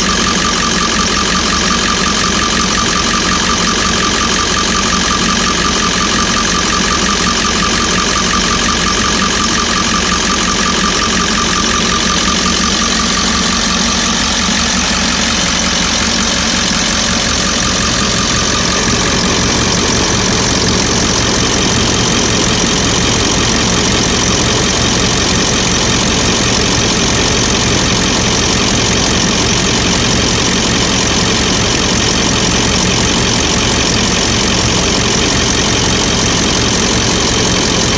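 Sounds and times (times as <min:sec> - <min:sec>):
high whine: 0:00.0 - 0:31.1
diesel engine idling: 0:00.0 - 0:37.9.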